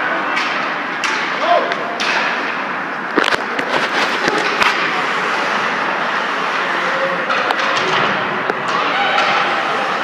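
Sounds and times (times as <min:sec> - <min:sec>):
ice rink noise: 0:00.0 - 0:10.0.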